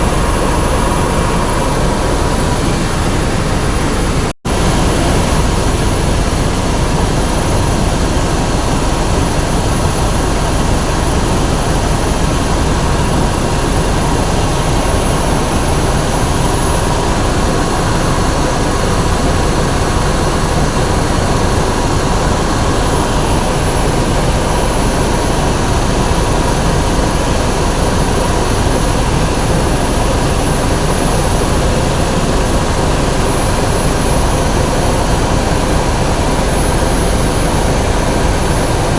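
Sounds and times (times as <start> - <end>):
faint high whine: 0.0 - 38.9
helicopter engine and rotor noise: 0.0 - 38.9.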